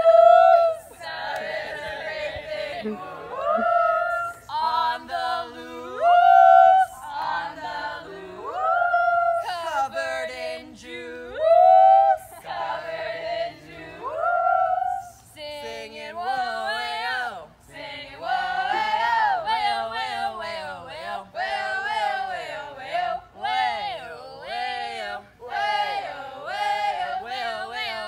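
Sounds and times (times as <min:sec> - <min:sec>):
group singing unaccompanied: 0:00.0 - 0:28.0.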